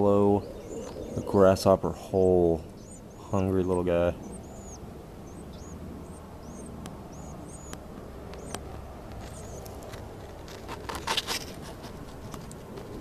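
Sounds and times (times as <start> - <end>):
low background rumble: 0.0 - 10.9
small birds chirping: 0.0 - 13.0.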